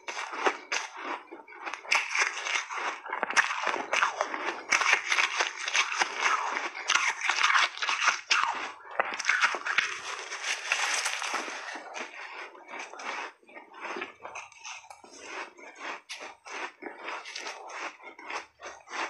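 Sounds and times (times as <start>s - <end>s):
shaved ice crunching when chewed: 0.0s - 19.0s.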